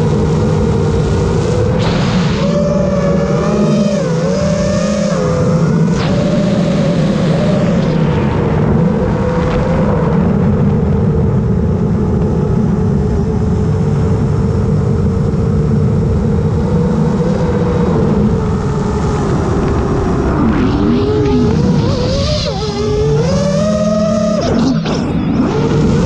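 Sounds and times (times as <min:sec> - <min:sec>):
drone motors whining: 0:00.0 - 0:26.0
wind rumble on microphone: 0:00.0 - 0:26.0.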